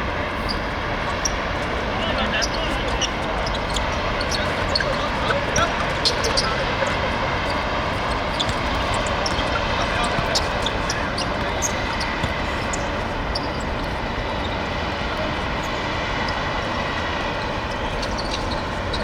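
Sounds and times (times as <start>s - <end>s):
faint voices: 0.1s - 19.0s.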